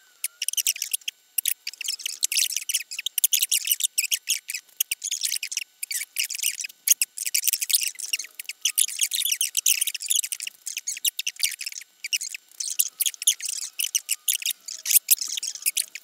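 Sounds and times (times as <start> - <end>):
sped up squeaky chatter: 0.2 - 16.0.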